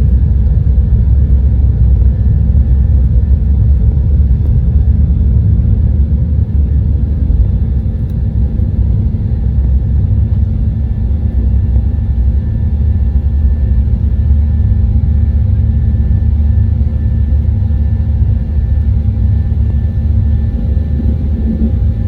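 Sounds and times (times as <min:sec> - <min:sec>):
faint steady whines: 0:00.0 - 0:22.0
jet engine and airflow rumble: 0:00.0 - 0:22.0.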